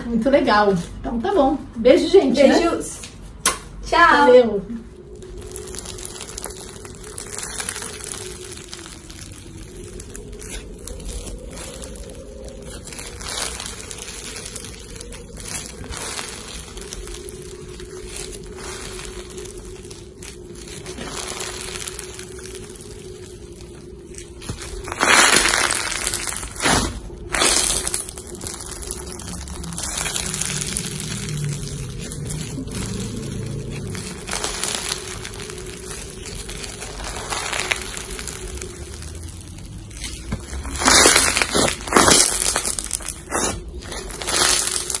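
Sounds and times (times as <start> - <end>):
crunchy slime crackling: 3.9 - 45.0.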